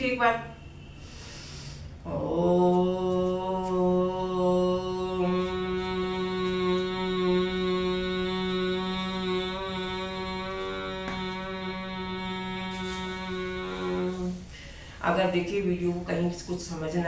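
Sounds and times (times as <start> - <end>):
woman chanting om: 1.9 - 17.0.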